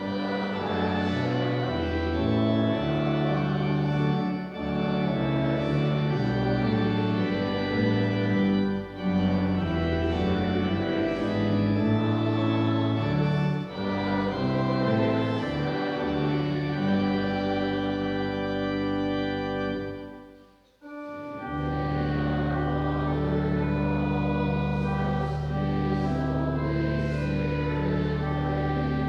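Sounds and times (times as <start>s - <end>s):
church organ playing a hymn: 0.0s - 29.0s.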